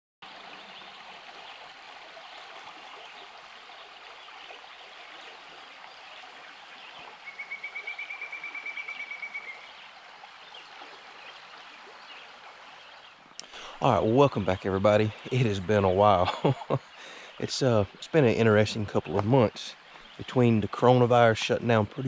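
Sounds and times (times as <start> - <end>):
river water rushing: 0.2 - 21.7.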